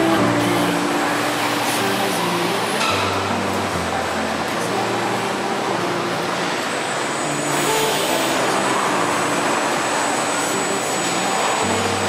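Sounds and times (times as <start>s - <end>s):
loud steady machinery hiss: 0.0s - 12.0s.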